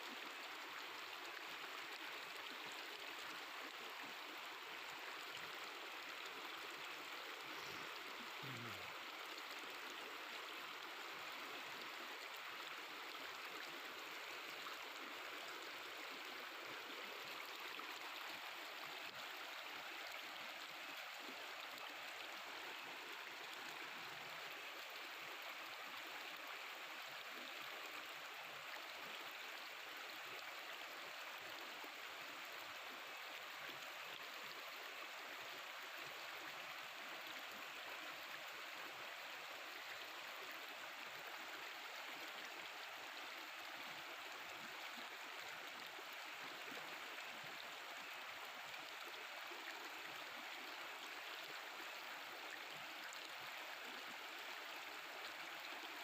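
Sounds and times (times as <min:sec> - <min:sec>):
river babbling: 0:00.0 - 0:56.0.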